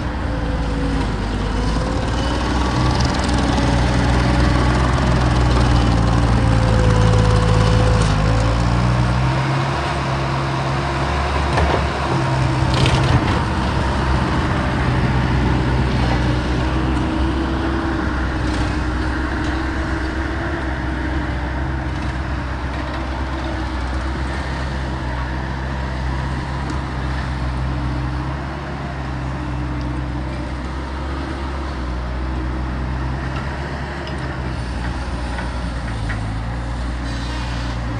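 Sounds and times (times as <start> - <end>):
skid-steer loader engine hum: 0.0 - 37.9.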